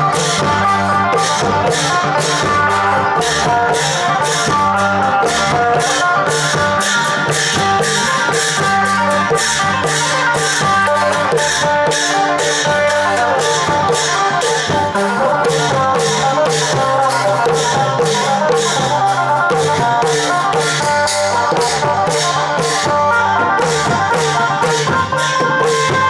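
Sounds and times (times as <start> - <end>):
hand-struck long drums: 0.0 - 26.0
plucked-string melody: 0.0 - 26.0.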